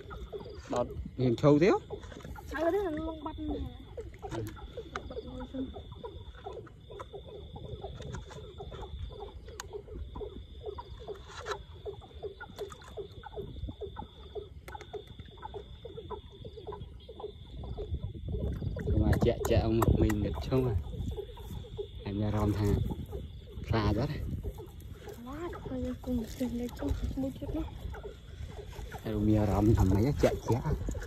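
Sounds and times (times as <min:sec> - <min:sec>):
frogs croaking in chorus: 0:00.0 - 0:31.0.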